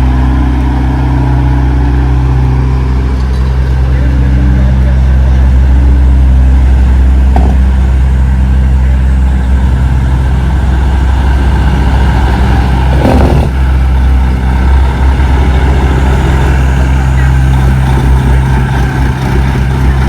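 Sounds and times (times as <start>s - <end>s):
diesel truck engines humming: 0.0s - 20.0s.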